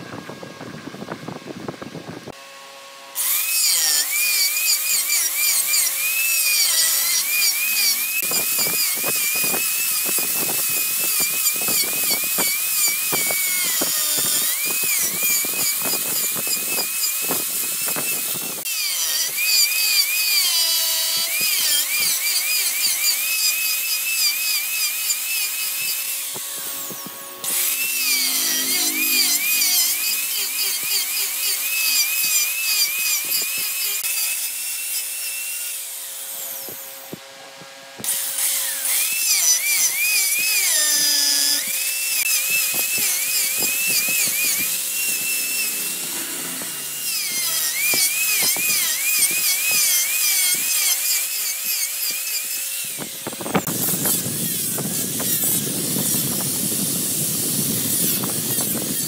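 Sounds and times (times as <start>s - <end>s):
angle grinder whining on wood: 0.0s - 59.0s.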